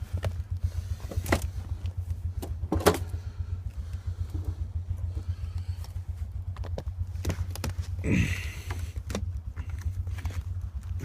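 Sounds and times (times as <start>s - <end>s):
atv engines idling: 0.0s - 11.0s.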